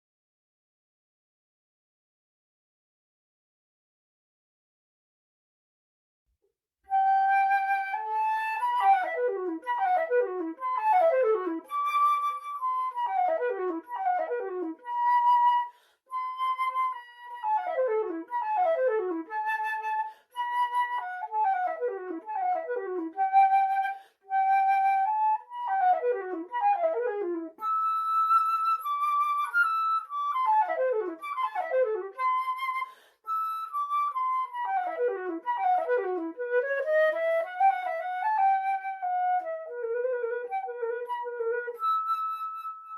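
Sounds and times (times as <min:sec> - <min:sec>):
solo flute melody: 0:06.9 - 0:42.9.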